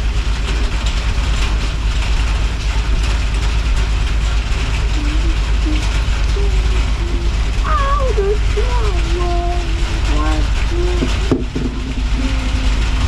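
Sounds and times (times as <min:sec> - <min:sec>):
low rumble: 0:00.0 - 0:13.0
rain hissing: 0:00.0 - 0:13.0.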